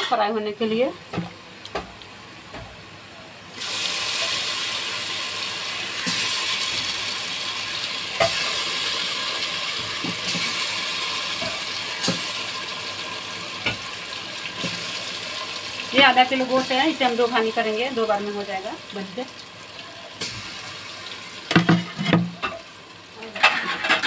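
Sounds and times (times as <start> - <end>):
chicken sizzling in hot oil: 0.1 - 24.0.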